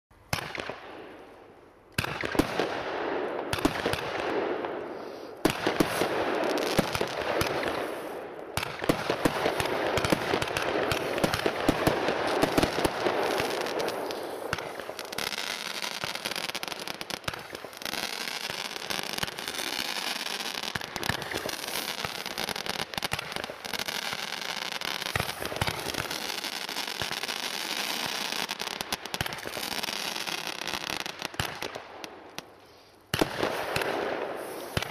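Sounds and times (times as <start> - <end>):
firework crackling pops: 0.3 - 1.3, 1.9 - 34.9
firework shots with hissing: 2.0 - 34.9.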